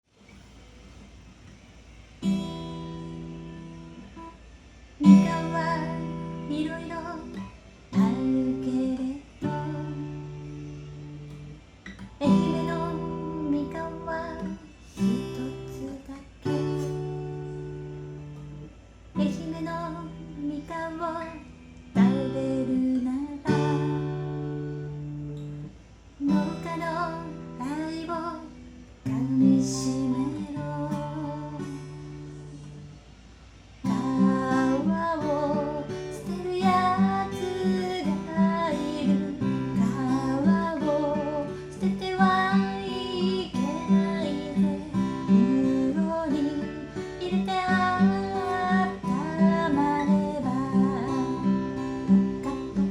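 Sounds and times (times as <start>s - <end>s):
acoustic guitar strumming: 2.2s - 4.4s, 5.0s - 32.9s, 33.8s - 52.9s
person singing softly: 5.0s - 25.6s, 26.2s - 33.0s, 33.8s - 52.9s.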